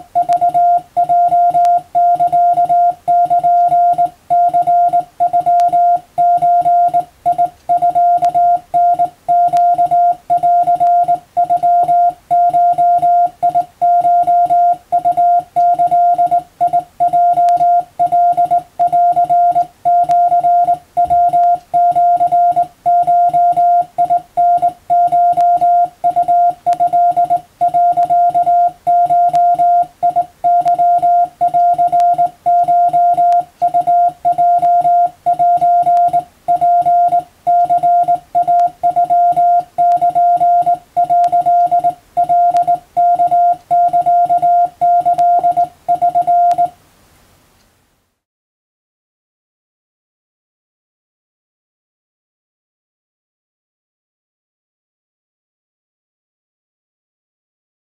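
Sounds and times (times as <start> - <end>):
morse code beeps: 0.0 - 46.7.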